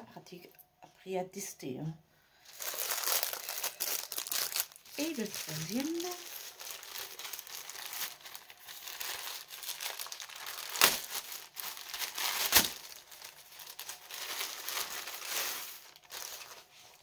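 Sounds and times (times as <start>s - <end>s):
plastic bag crinkling: 2.4s - 17.0s
plastic bag ripping: 2.5s - 17.0s.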